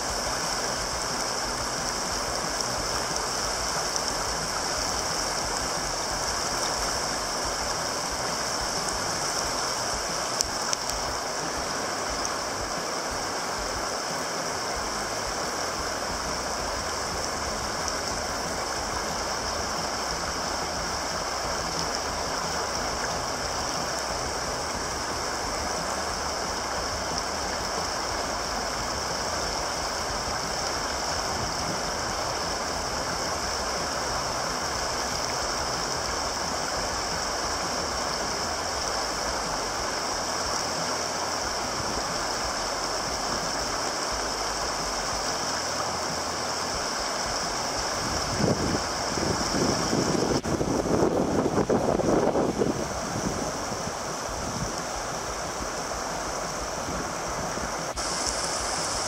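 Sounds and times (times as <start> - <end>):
whitewater rapids roaring: 0.0 - 59.0.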